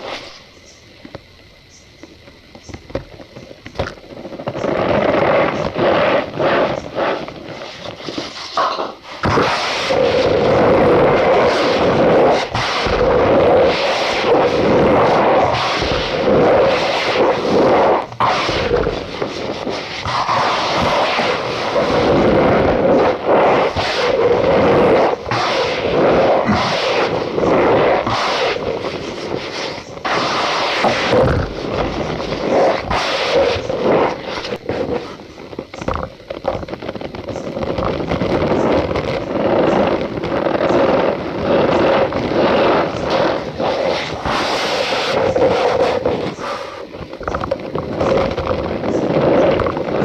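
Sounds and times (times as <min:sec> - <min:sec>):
powder squeaky crunching: 0:02.6 - 0:50.0.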